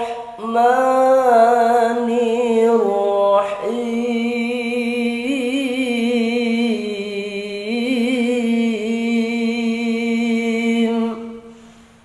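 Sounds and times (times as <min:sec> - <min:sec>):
man chanting melodically: 0:00.0 - 0:11.5.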